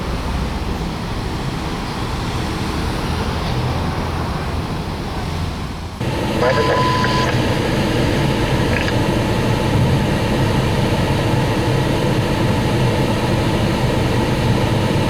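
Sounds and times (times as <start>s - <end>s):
low rumble of traffic engines: 0.0s - 15.0s.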